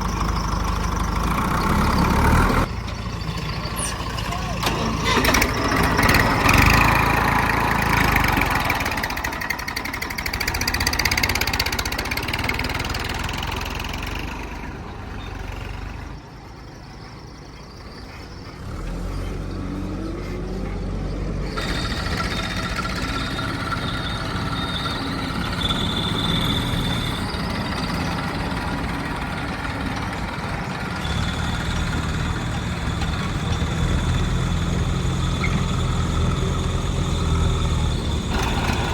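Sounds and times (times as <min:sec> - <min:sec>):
diesel engines working: 0:00.0 - 0:38.9.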